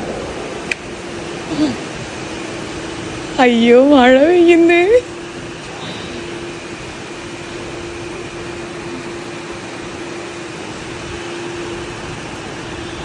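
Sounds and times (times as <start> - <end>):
faint steady hum: 0.0 - 13.0
steady rain falling: 0.0 - 13.0.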